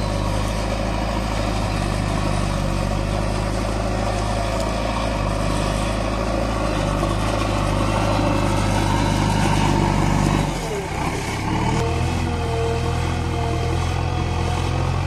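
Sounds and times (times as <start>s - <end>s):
diesel engine running: 0.0s - 15.0s
loader bucket pushing into soil: 0.0s - 15.0s.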